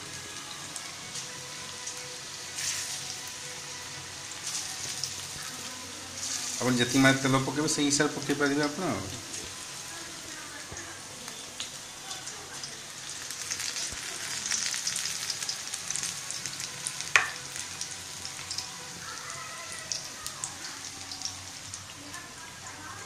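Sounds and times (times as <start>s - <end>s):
food deep-frying in oil: 0.0s - 23.0s.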